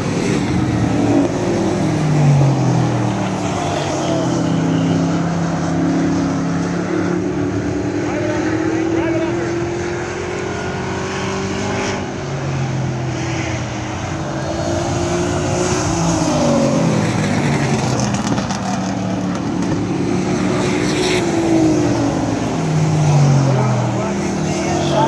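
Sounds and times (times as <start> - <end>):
racing truck engines: 0.0 - 25.0.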